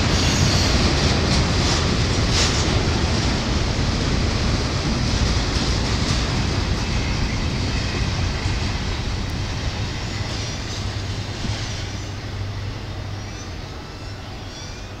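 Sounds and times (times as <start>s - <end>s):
freight train rolling over rails: 0.0s - 15.0s.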